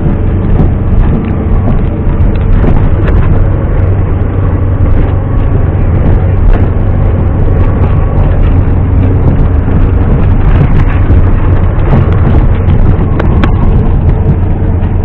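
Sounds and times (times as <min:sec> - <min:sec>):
car engine running: 0:00.0 - 0:15.0
sharp knocks and rattles: 0:00.0 - 0:15.0.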